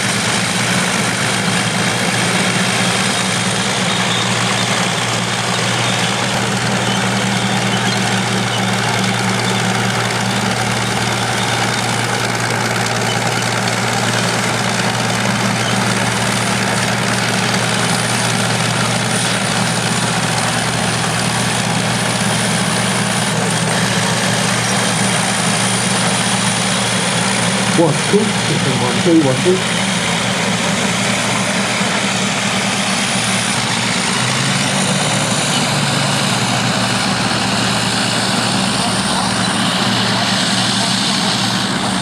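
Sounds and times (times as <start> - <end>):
bulldozer engine drone: 0.0 - 42.0.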